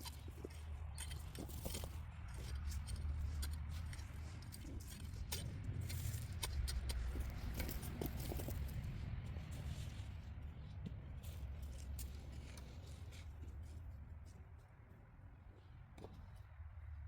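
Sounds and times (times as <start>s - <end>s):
clicks and scrapes in soil: 0.0s - 14.8s.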